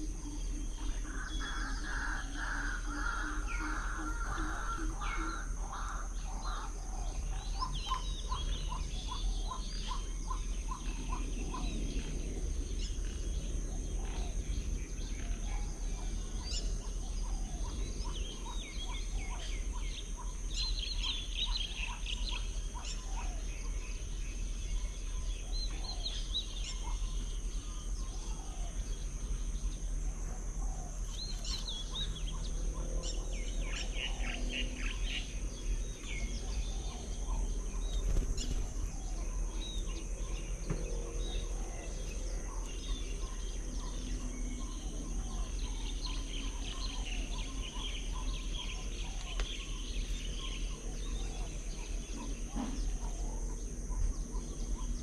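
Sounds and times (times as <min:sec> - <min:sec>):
birds calling and chirping: 0:00.0 - 0:55.0.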